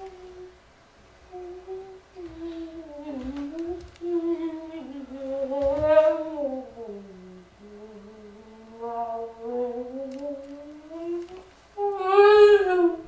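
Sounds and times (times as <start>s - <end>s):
person humming: 0.0s - 0.6s, 1.3s - 13.0s.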